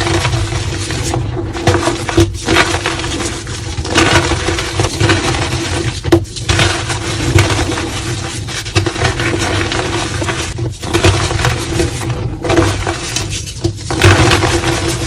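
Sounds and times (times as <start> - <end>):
chalk crushing and crunching: 0.0 - 15.0.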